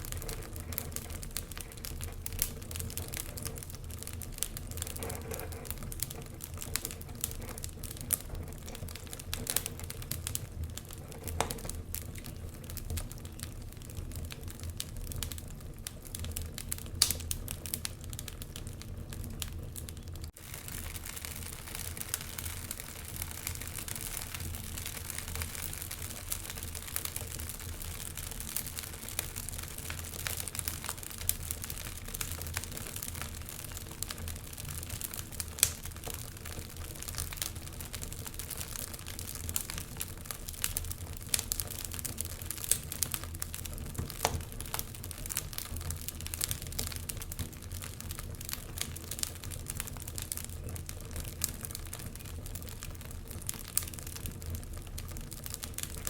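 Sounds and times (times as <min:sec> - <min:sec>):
flames hissing and rumbling: 0:00.0 - 0:56.0
wood fire crackling and popping: 0:00.0 - 0:56.0.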